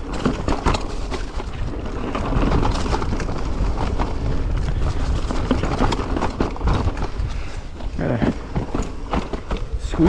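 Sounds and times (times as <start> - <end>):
mountain bike clattering on rocks: 0.0 - 10.0.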